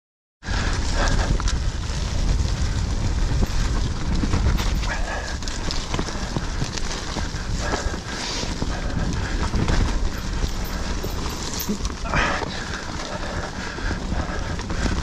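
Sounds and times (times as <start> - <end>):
tyres on loose ground: 0.4 - 15.0
bike rattling and knocking: 0.5 - 15.0
heavy low rumble: 0.5 - 15.0.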